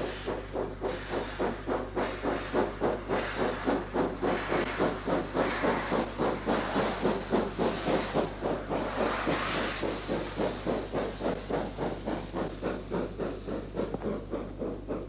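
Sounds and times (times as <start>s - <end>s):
steam hissing: 0.0s - 15.0s
steam locomotive exhaust beating: 0.0s - 15.0s.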